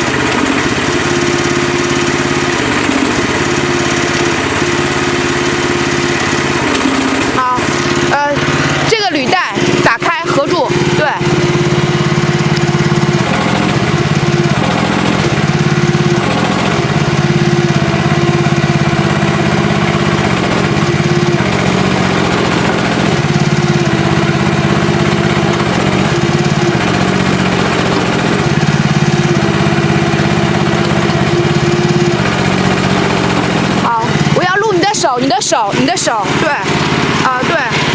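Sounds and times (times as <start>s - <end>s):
small excavator engine running: 0.0s - 37.9s.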